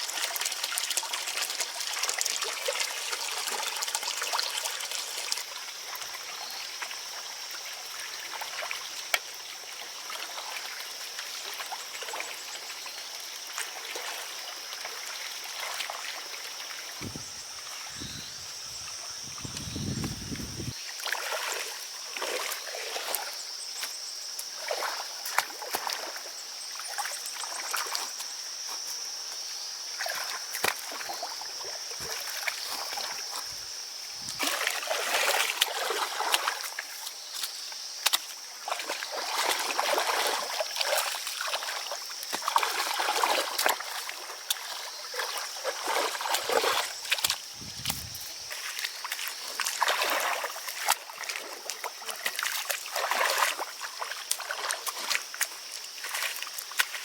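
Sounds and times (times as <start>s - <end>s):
water splashing in pond: 0.0s - 23.4s, 24.4s - 28.2s, 29.9s - 57.0s.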